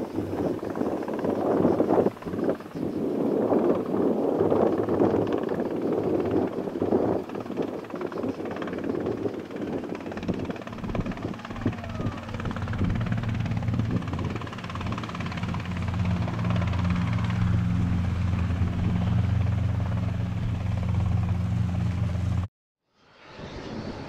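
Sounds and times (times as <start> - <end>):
helicopter engine and rotor: 0.0 - 22.5.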